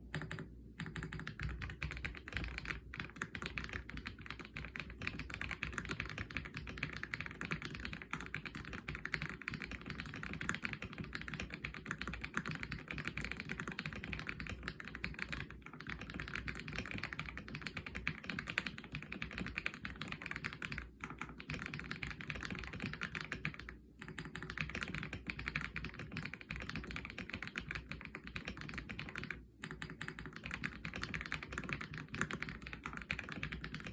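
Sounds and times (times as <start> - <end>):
fast mechanical keyboard typing: 0.1 - 33.9.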